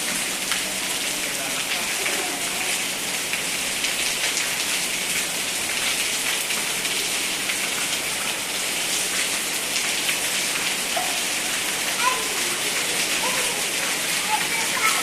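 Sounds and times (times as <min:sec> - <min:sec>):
heavy rain on hard surfaces: 0:00.0 - 0:15.0.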